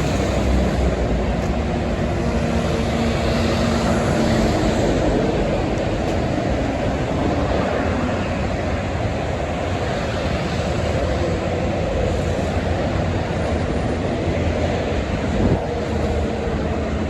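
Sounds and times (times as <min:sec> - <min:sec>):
heavy highway traffic roar: 0:00.0 - 0:17.0.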